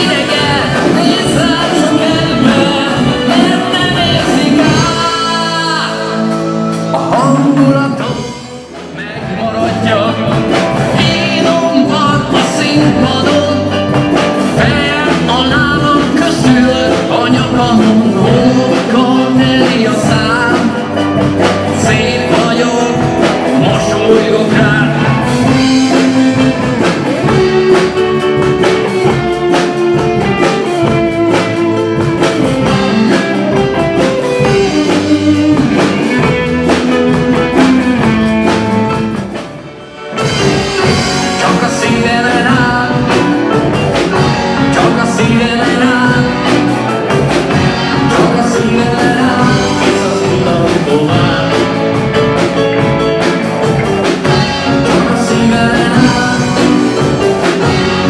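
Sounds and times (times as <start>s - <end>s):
bass guitar: 0.0s - 58.0s
drums: 0.0s - 58.0s
electric guitar: 0.0s - 58.0s
keyboards: 0.0s - 58.0s
person singing: 0.0s - 58.0s.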